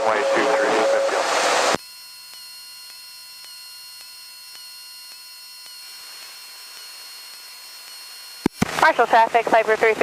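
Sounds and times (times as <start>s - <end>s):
high electrical whine: 0.0s - 10.0s.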